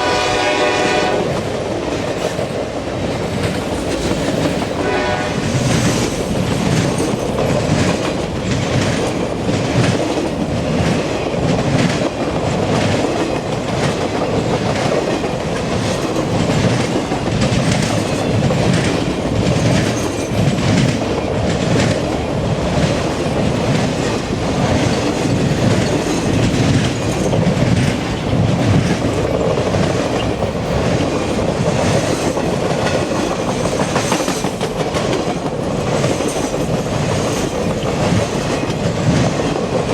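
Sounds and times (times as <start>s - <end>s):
train rumble: 0.0s - 39.9s
train wheels clicking over track joints: 0.6s - 39.9s.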